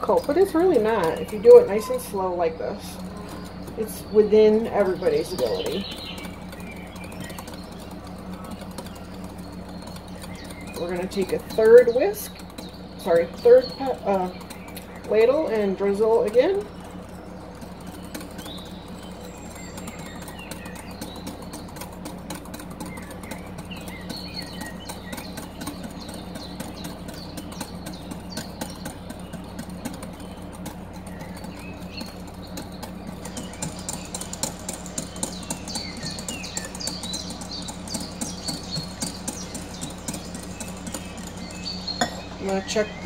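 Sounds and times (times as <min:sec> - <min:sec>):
low hum: 0:00.0 - 0:43.0
whisk ticking against glass bowl: 0:00.0 - 0:43.0.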